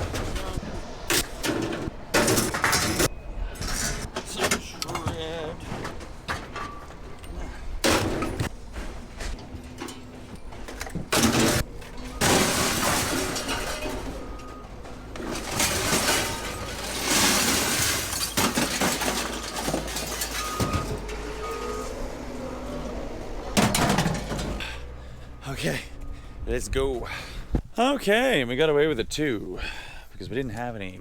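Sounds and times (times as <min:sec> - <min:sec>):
scrap metal clattering and crashing: 0:00.0 - 0:22.8, 0:23.4 - 0:26.2.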